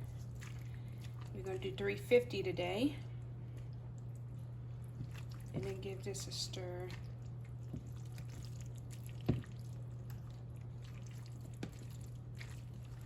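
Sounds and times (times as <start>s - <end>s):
wet squelching of stirred pasta: 0.0s - 2.1s, 3.0s - 13.0s.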